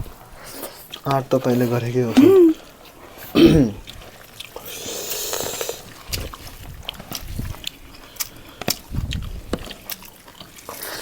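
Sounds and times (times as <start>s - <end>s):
chewing with wet clicks: 0.1s - 11.0s
slurp: 0.4s - 11.0s.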